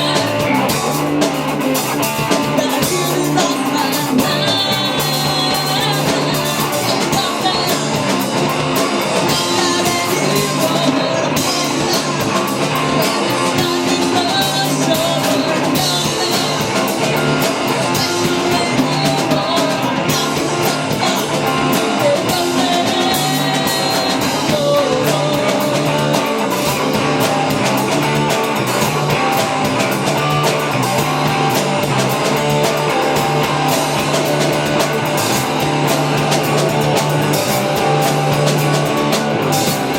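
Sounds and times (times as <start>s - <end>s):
person singing: 0.0s - 1.2s, 1.8s - 39.9s
drum kit: 0.0s - 39.9s
electric guitar: 0.0s - 39.9s.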